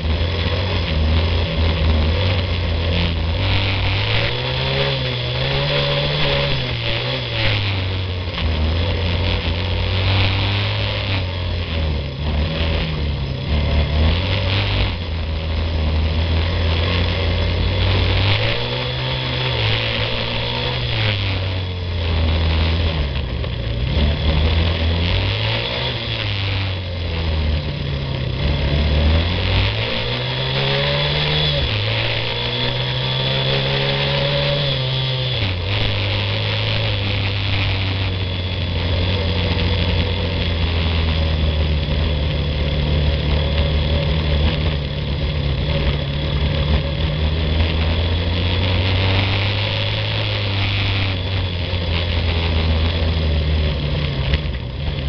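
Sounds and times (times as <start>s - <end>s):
all-terrain vehicle engine revving: 0.0s - 55.0s.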